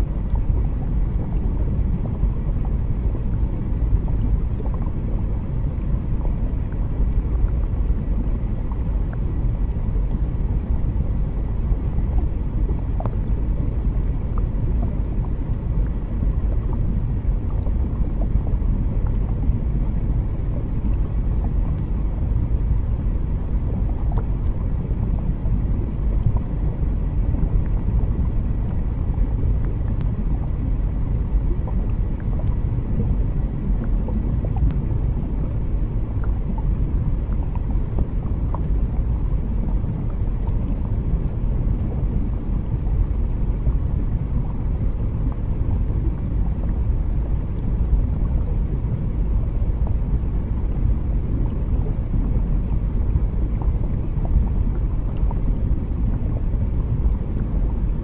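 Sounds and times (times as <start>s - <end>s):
deep underwater rumble: 0.0s - 58.0s.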